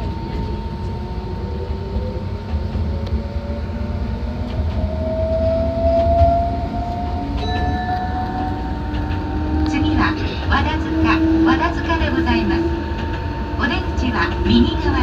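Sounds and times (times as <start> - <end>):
electric train rumbling on rails: 0.0 - 15.0
train motor whine: 0.0 - 15.0.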